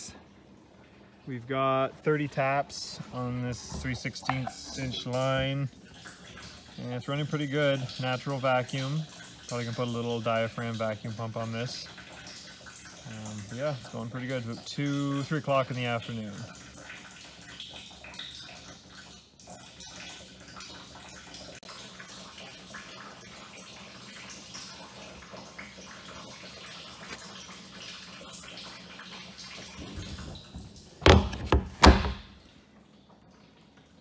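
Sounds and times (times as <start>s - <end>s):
sap dripping into tank: 0.0s - 34.0s.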